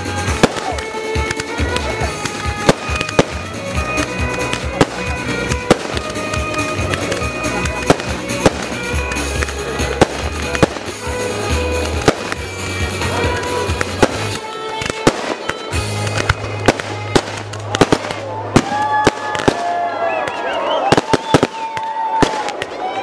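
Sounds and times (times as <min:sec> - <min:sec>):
music with sustained tones: 0:00.0 - 0:18.6
fireworks banging and crackling: 0:00.0 - 0:23.0.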